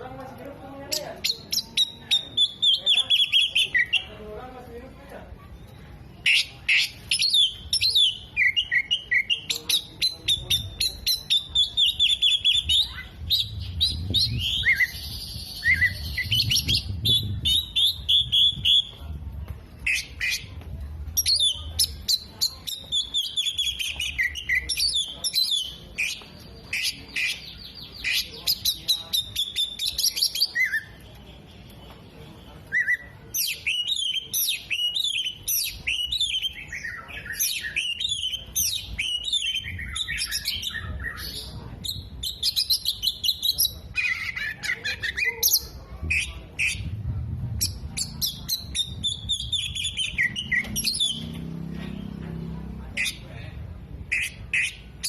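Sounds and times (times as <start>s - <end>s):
bird singing varied whistles and trills: 1.2s - 4.1s, 5.6s - 19.0s, 21.2s - 31.9s, 32.6s - 47.0s, 47.6s - 51.4s.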